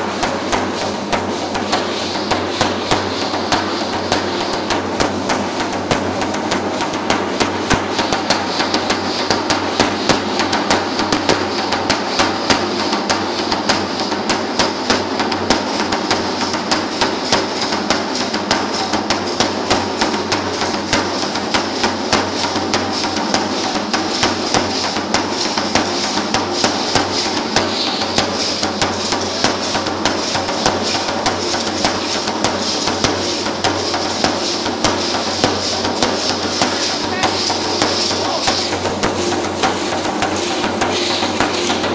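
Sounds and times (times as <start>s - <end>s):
drum beat: 0.0s - 41.9s.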